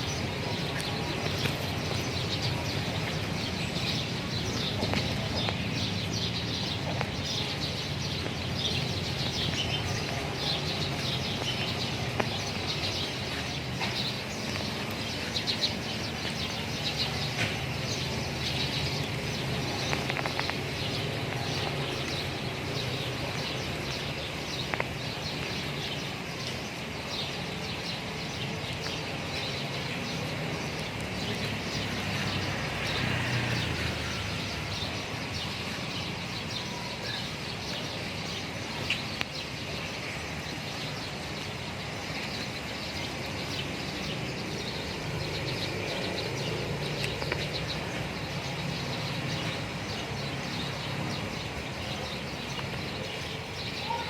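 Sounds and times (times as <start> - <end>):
small birds chirping: 0.0 - 54.0
steady background noise: 0.0 - 54.0.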